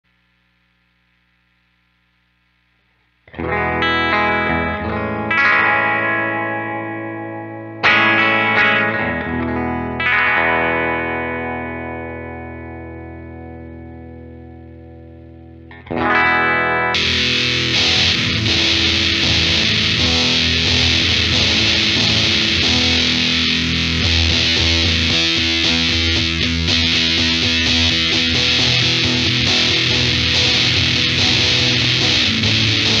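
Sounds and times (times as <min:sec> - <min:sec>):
fuzz guitar tone: 0:02.9 - 0:33.0
electric guitar chords strummed: 0:03.2 - 0:33.0.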